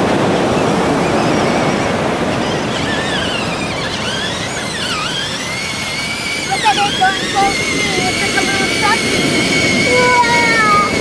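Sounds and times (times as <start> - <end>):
surf hissing: 0.0 - 11.0
toy electric motor whining: 0.3 - 11.0.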